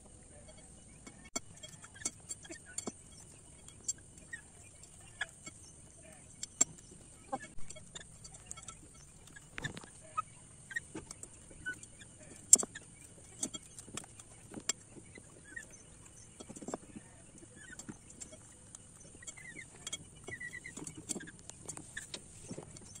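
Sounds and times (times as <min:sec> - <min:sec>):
birds chirping softly: 0:00.0 - 0:23.0.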